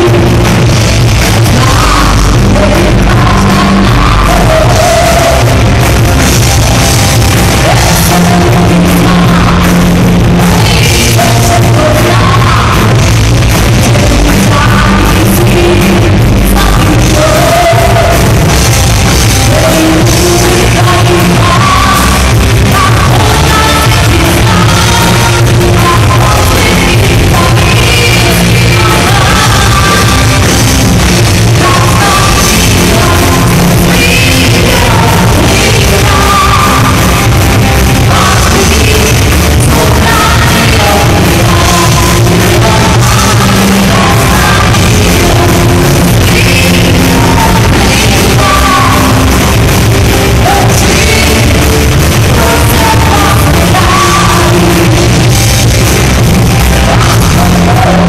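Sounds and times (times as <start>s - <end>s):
live rock band playing: 0.0s - 58.0s
person singing: 0.0s - 58.0s.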